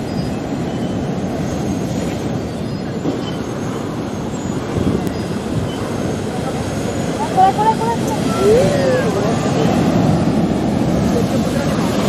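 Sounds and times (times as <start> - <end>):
waves breaking on rough sea: 0.0 - 12.0.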